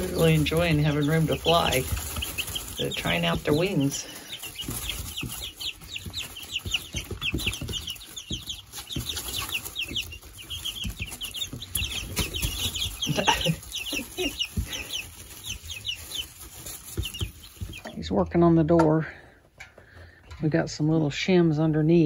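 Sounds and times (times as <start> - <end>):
rustling in wood shavings: 0.0 - 18.6
chicks peeping: 0.0 - 22.0.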